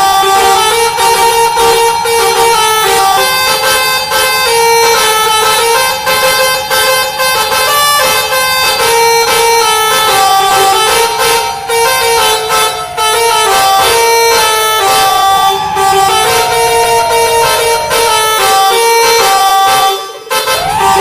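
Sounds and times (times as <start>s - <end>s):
steady beat: 0.0s - 21.0s
truck melody horn playing a tune: 0.0s - 21.0s.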